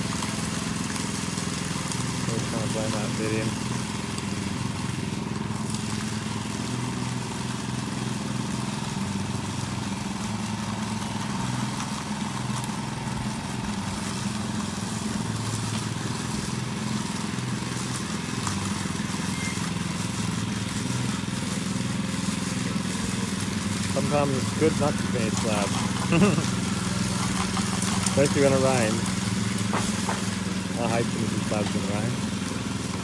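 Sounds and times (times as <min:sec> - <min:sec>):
small petrol engine running: 0:00.0 - 0:33.0.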